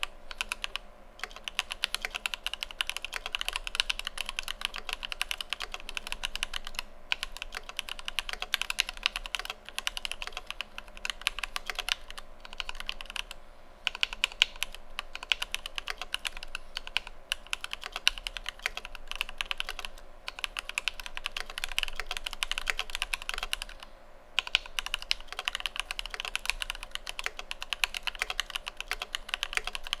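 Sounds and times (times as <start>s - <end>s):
fast mechanical keyboard typing: 0.0s - 30.0s.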